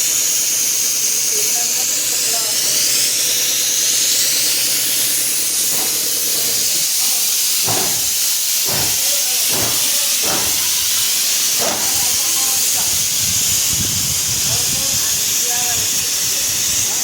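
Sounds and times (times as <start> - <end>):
loud hiss: 0.0 - 17.0.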